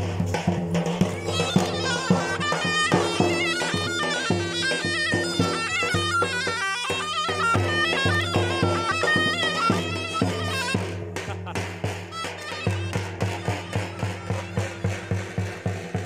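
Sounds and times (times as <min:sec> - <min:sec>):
reed pipe folk dance tune: 0:00.0 - 0:16.0
regular beat: 0:00.0 - 0:16.0.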